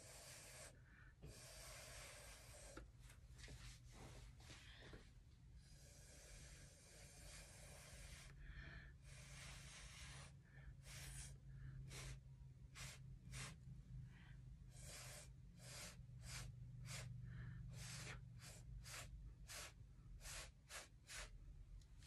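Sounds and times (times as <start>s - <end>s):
puffs of breath through straw: 0.0s - 2.9s, 5.6s - 21.4s.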